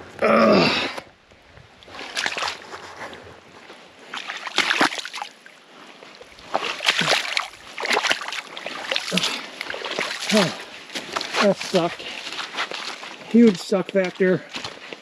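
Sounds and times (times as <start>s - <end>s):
splashing in muddy water: 1.7s - 15.0s.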